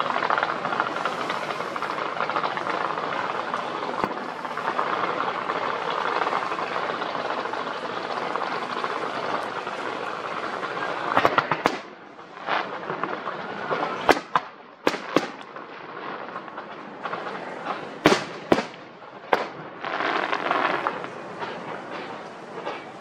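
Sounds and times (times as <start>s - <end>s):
fireworks bursting bangs: 0.0s - 23.0s
fireworks hissing crackle: 0.0s - 23.0s.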